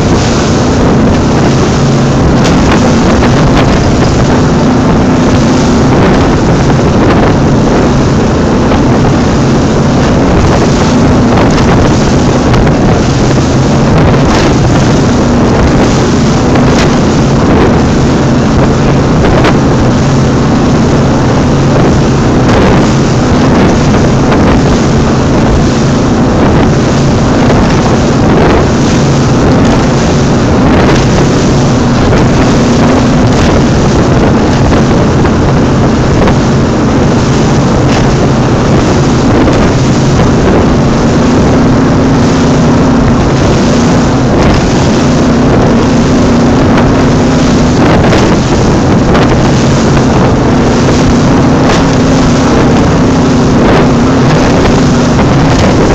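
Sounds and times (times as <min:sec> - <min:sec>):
powerboat engine hum: 0:00.0 - 0:55.9
wind buffeting microphone: 0:00.0 - 0:55.9.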